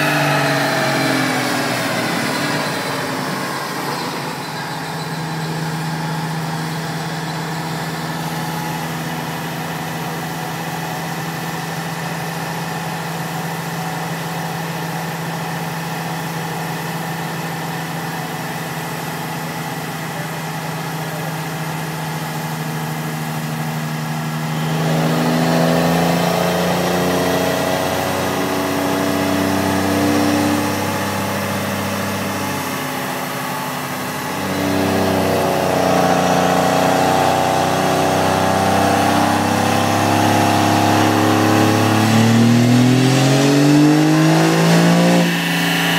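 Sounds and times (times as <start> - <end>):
diesel engine revving: 0.0 - 45.9.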